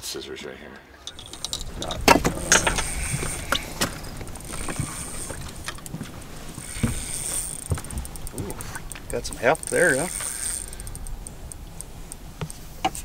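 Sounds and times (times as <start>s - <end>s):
fishing gear knocks and clicks: 1.1s - 13.0s.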